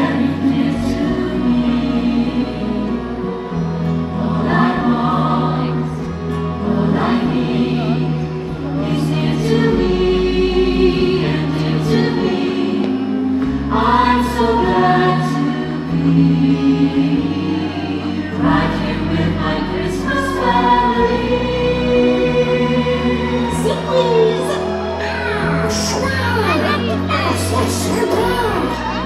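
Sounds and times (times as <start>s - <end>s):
choir singing long held notes: 0.0s - 29.0s
musical backing: 0.0s - 29.0s.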